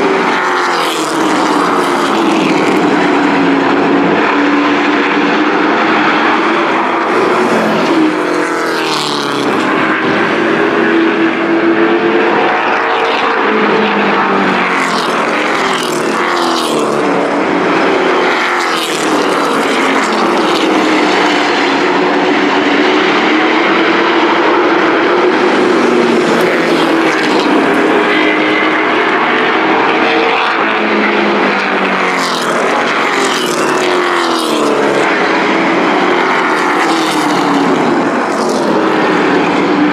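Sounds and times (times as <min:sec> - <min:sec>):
race truck engines: 0:00.0 - 0:39.9
trucks passing by: 0:00.0 - 0:39.9.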